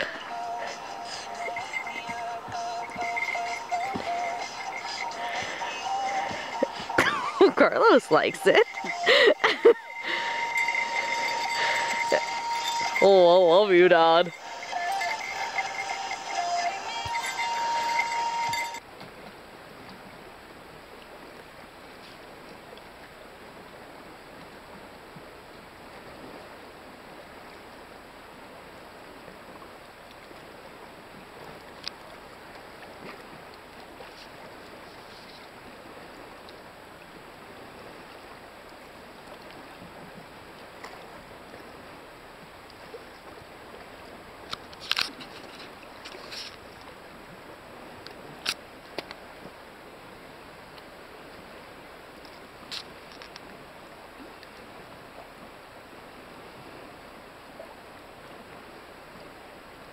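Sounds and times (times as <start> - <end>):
water lapping around canoe: 0.0 - 59.9.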